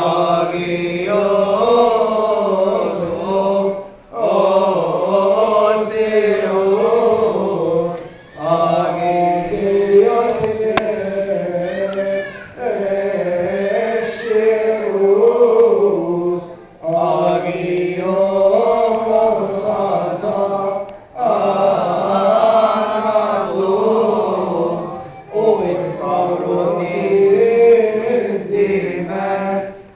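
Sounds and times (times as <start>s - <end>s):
liturgical chanting: 0.0s - 29.9s.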